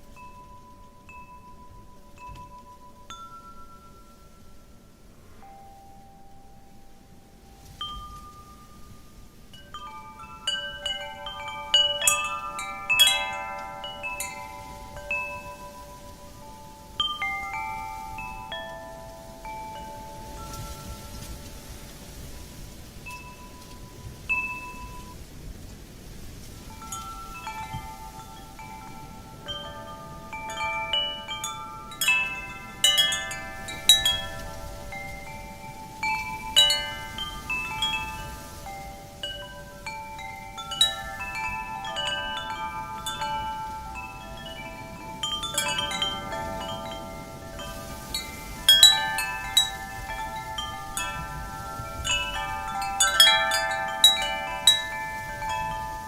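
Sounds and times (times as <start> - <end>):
metal wind chimes ringing: 0.0 - 56.0
soft wind: 0.0 - 56.0.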